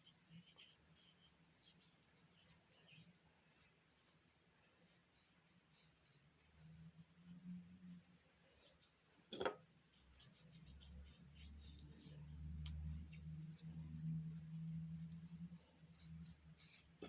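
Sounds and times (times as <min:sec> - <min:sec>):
scratchy rubbing of paste on skin: 0:00.3 - 0:17.0.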